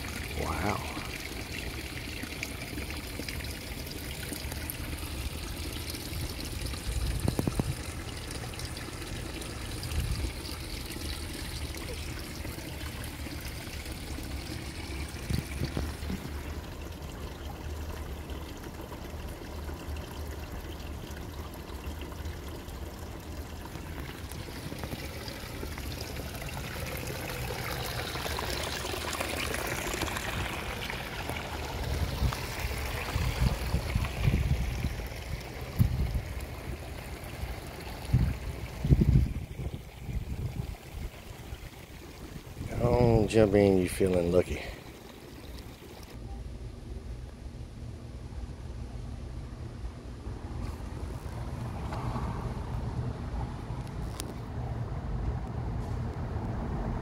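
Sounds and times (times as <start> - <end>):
water trickling and pouring: 0.0 - 46.2.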